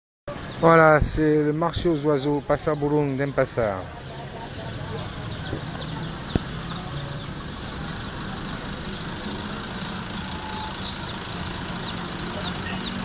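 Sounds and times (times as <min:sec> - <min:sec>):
small birds chirping: 0:00.3 - 0:13.0
low engine rumble: 0:00.6 - 0:13.0.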